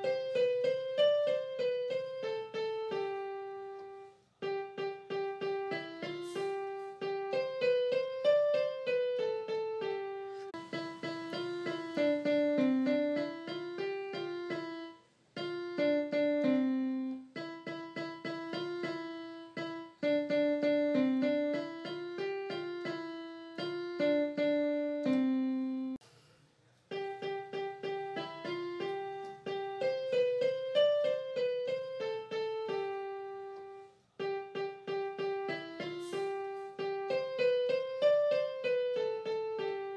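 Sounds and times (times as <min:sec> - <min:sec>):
solo piano melody: 0:00.0 - 0:26.0, 0:26.9 - 0:39.9.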